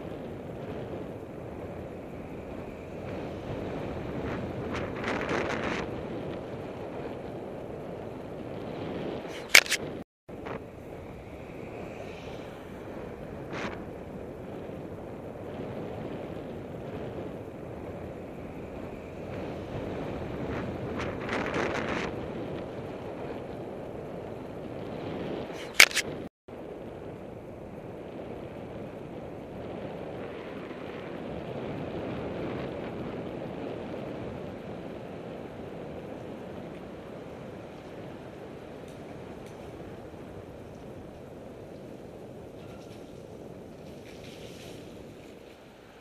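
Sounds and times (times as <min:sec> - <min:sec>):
tyre and road noise: 0:00.0 - 0:46.0
wind rush on microphone: 0:00.0 - 0:46.0.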